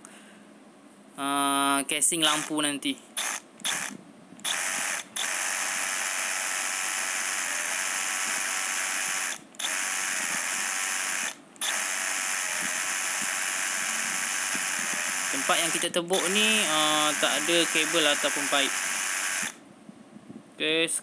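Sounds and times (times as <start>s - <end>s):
drill boring into concrete: 2.2s - 2.6s, 3.2s - 19.6s.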